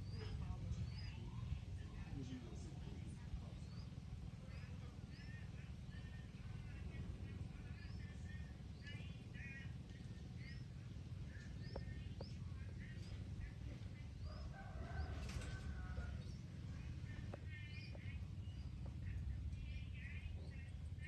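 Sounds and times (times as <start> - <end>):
birds chirping rising notes: 0.0 - 21.0.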